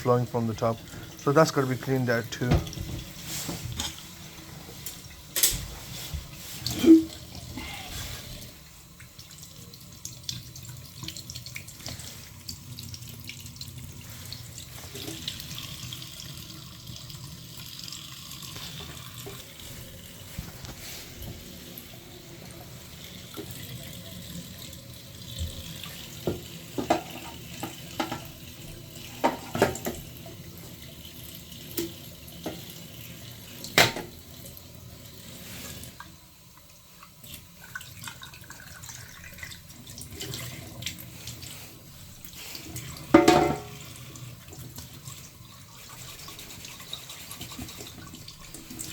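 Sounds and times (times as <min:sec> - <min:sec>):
tap water running: 0:00.0 - 0:48.9.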